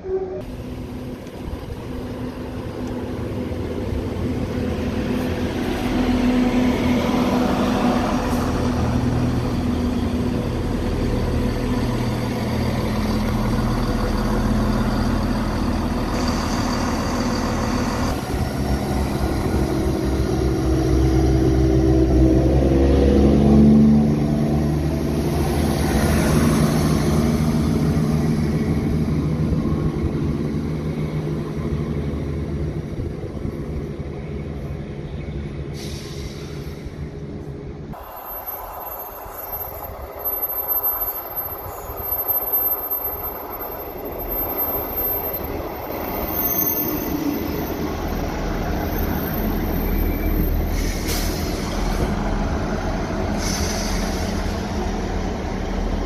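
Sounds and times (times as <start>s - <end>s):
train rumbling along platform: 0.0s - 56.0s
diesel engines revving: 0.4s - 56.0s.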